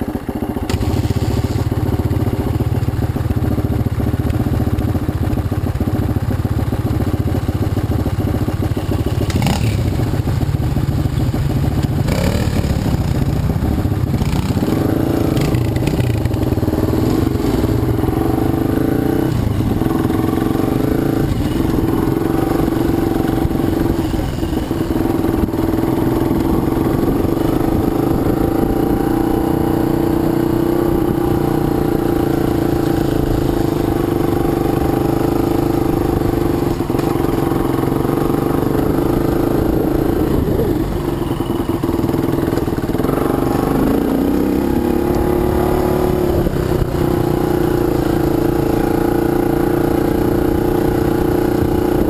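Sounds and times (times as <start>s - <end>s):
dirt bike engine running: 0.0s - 52.0s.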